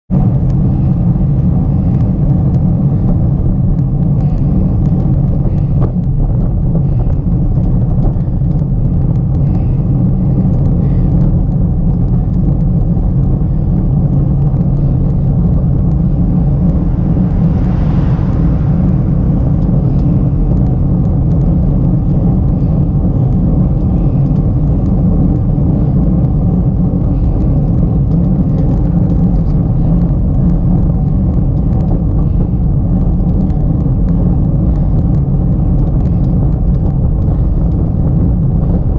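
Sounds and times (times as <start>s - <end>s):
vehicle driving on road: 0.0s - 38.9s.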